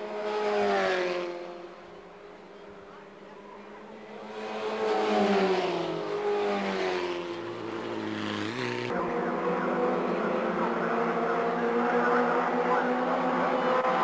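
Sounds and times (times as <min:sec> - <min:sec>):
racing cars passing at speed: 0:00.0 - 0:14.0.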